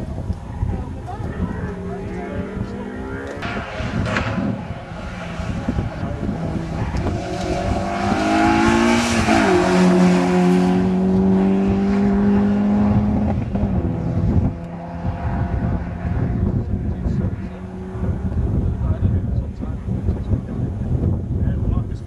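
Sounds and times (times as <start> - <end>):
race car engine revving past: 0.6 - 18.8.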